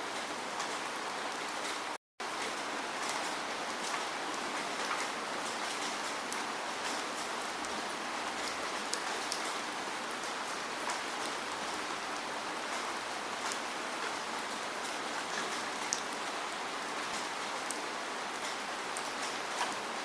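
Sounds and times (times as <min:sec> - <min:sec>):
steady rain hissing: 0:00.0 - 0:20.0
raindrops ticking on a surface: 0:01.6 - 0:20.0.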